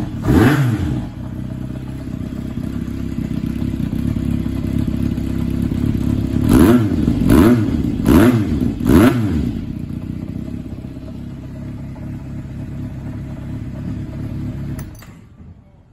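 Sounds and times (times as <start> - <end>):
motorcycle engine revving and idling: 0.0 - 15.2.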